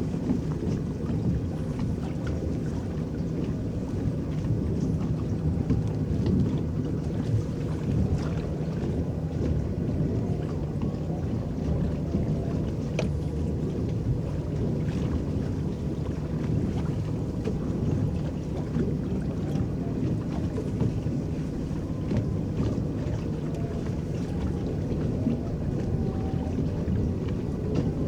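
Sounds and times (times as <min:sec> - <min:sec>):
paddles churning water: 0:00.0 - 0:28.0
small water splashes: 0:00.0 - 0:28.0
wind on microphone: 0:00.0 - 0:28.0.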